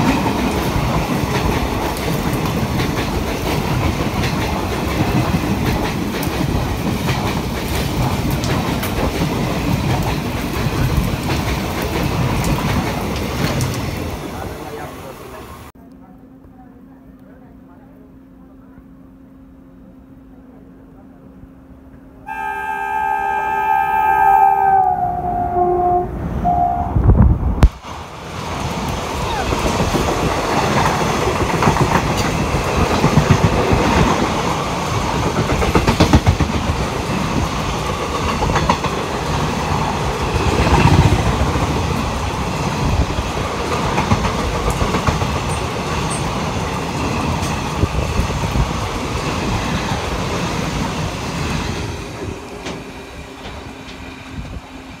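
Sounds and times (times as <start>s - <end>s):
passing train rushing noise: 0.0s - 15.8s, 22.2s - 55.0s.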